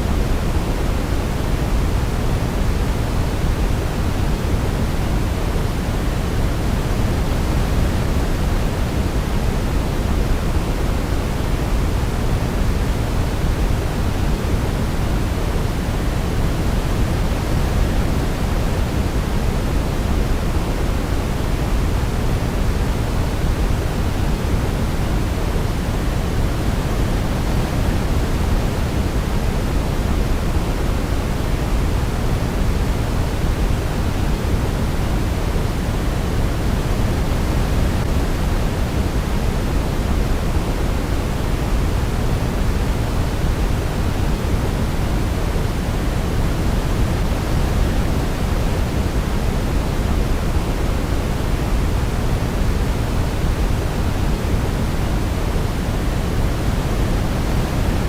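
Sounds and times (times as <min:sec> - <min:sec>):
white noise rushing hiss: 0:00.0 - 0:58.0.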